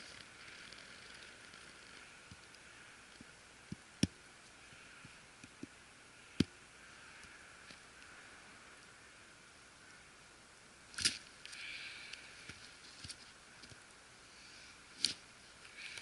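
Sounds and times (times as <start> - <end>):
campfire hissing and crackling: 0.0 - 16.0.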